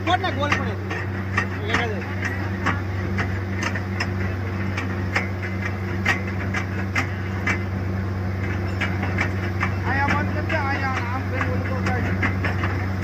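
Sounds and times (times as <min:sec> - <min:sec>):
drilling rig engine drone: 0:00.0 - 0:13.0
sharp knocks and clicks: 0:00.0 - 0:13.0.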